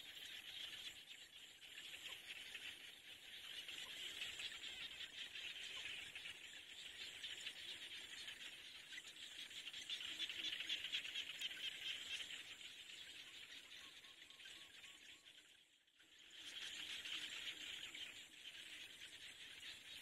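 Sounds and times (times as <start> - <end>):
chorus of small calling animals: 0.0 - 20.0.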